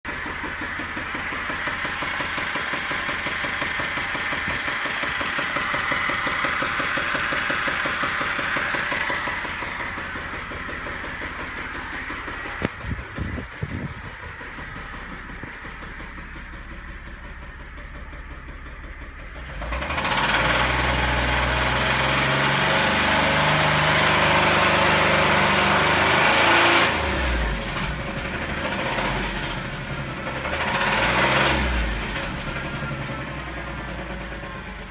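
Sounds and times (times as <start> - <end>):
engine running with a knock: 0.1 - 34.9.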